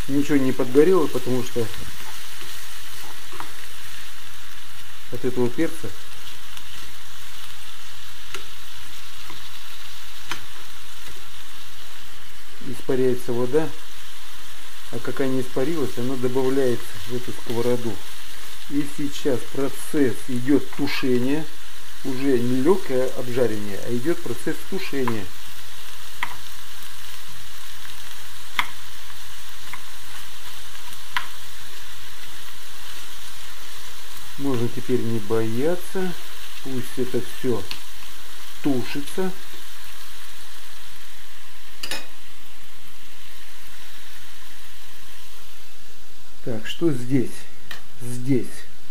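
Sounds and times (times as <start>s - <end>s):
vegetables sizzling in oil: 0.0s - 48.9s.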